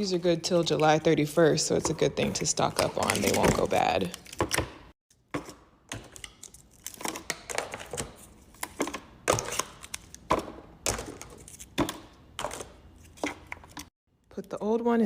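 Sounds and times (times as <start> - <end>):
plastic cups clicking and knocking: 1.8 - 13.9.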